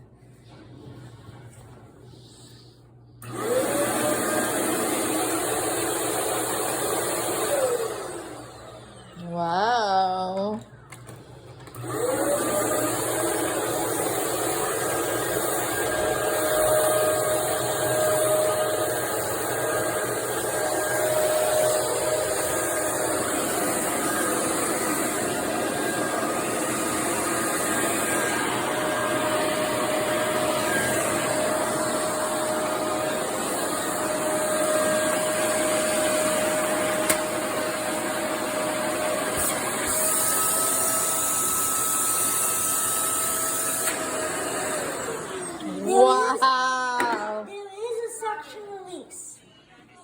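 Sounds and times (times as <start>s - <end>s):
vacuum cleaner running: 3.2s - 47.5s.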